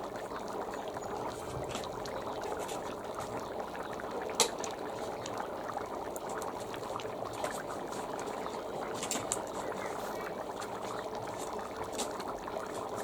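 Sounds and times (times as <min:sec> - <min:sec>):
stew bubbling and simmering: 0:00.0 - 0:13.0.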